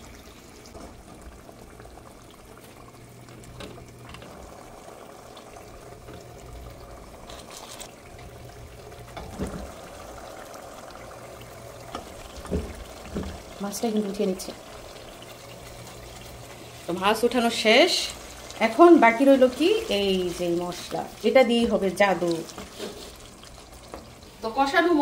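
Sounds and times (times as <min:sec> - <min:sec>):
thick gravy bubbling in a pot: 0:00.0 - 0:25.0.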